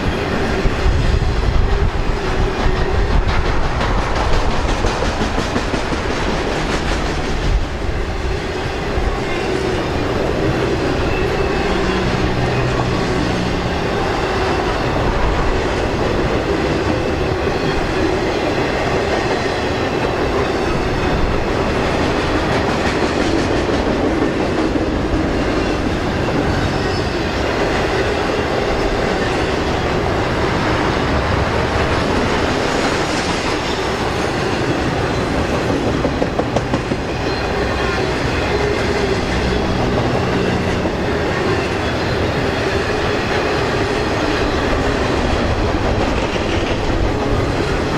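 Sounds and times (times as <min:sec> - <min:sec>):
freight train rolling past: 0:00.0 - 0:47.9.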